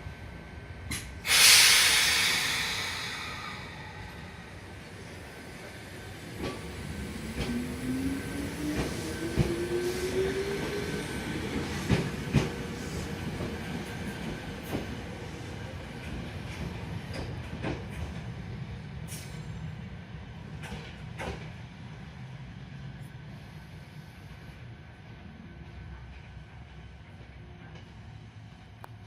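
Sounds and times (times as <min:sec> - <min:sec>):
low train rumble: 0:00.0 - 0:29.0.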